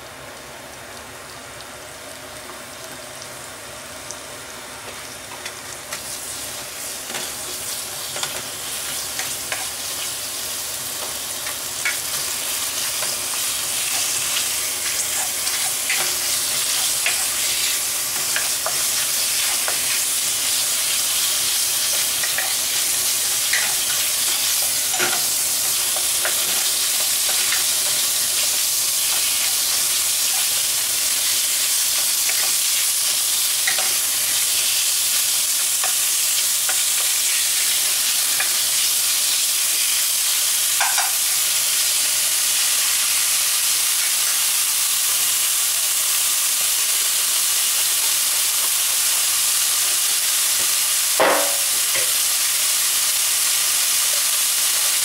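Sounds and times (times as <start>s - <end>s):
meat sizzling in a frying pan: 0.0s - 55.0s.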